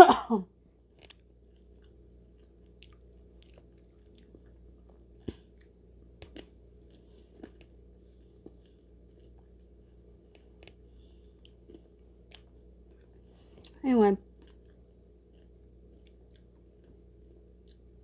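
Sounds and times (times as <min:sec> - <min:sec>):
chewing crunchy food: 0:00.7 - 0:18.0.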